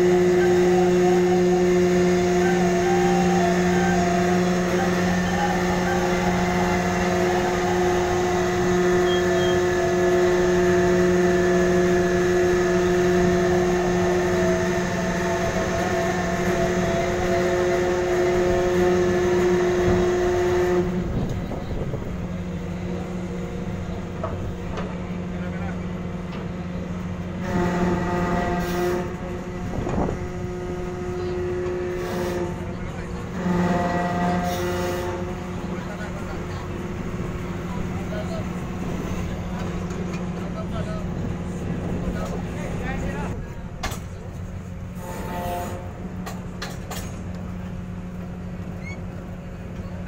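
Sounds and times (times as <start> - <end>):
ship engines droning: 0.0 - 50.0.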